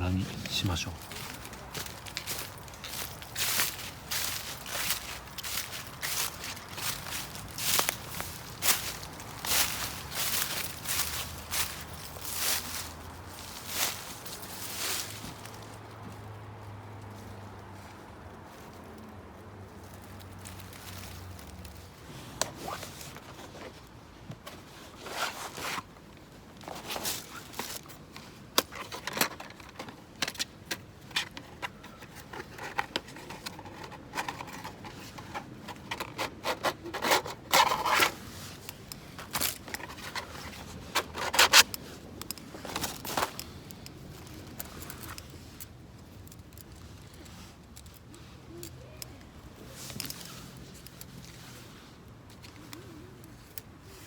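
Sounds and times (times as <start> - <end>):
camping gear scraping and rasping: 0.0 - 15.6, 20.4 - 54.0.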